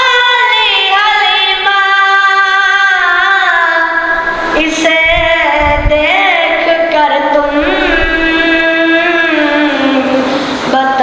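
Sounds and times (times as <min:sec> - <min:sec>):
boy singing unaccompanied: 0:00.0 - 0:11.0.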